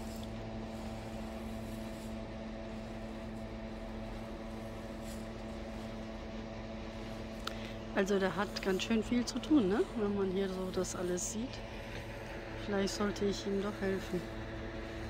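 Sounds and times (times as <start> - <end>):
motor hum: 0.0 - 15.0.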